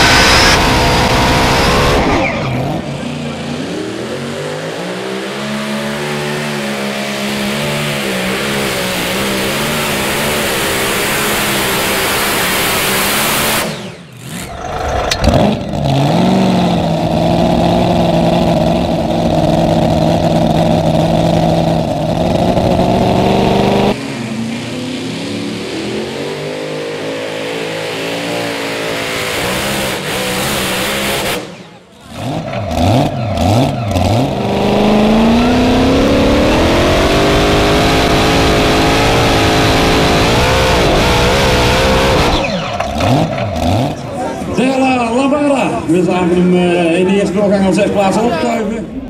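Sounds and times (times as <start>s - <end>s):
tractor engine running hard: 0.0s - 49.0s.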